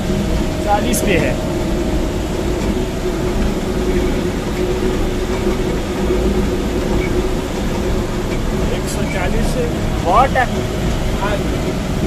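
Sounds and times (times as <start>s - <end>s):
turbine machine hum: 0.0s - 12.0s
water rushing: 0.0s - 12.0s.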